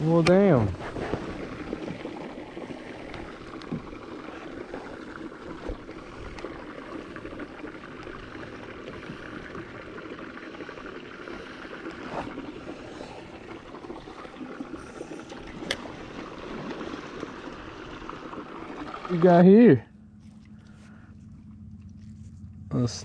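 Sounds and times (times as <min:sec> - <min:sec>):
water lapping against boat hull: 0:00.0 - 0:22.7
small ticks and splashes: 0:01.0 - 0:19.5.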